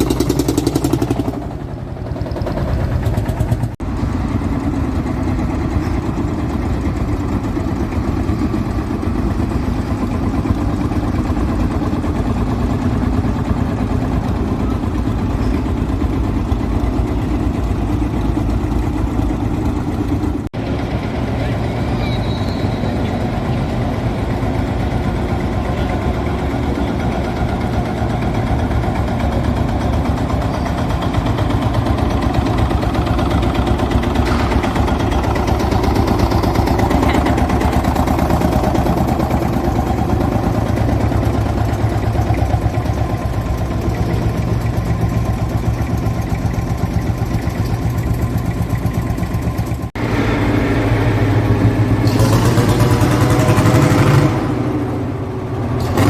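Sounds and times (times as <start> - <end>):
tractor engines running: 0.0 - 56.0.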